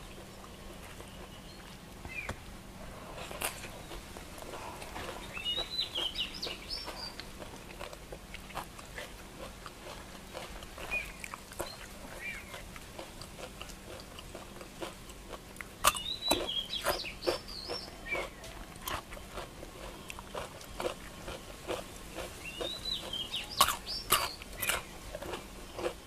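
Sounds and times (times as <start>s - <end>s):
person chewing with lip smacks: 3.2s - 26.0s.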